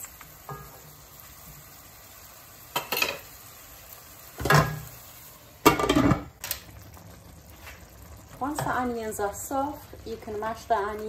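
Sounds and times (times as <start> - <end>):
onions sizzling: 0.0 - 11.0.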